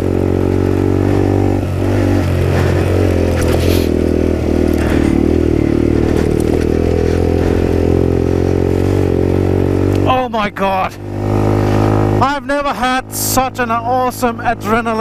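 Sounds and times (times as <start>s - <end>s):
motorcycle engine under throttle: 0.0s - 15.0s
tyres on dirt and gravel: 0.0s - 15.0s.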